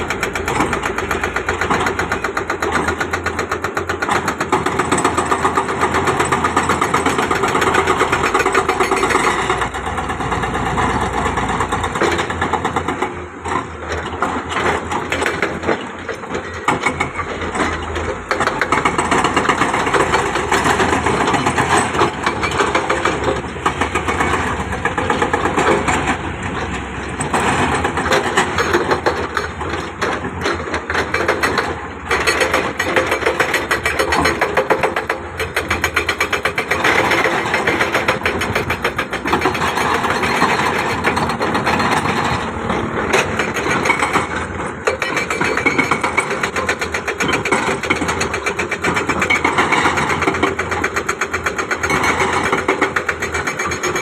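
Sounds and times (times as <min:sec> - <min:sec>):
diesel machinery engine rattling: 0:00.0 - 0:54.0.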